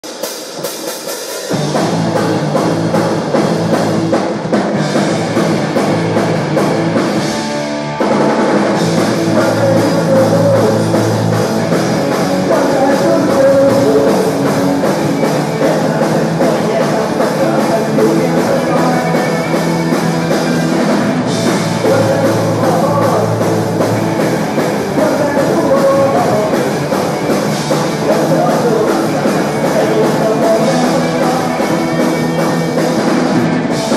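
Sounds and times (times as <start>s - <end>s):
live rock band: 0.0s - 33.9s.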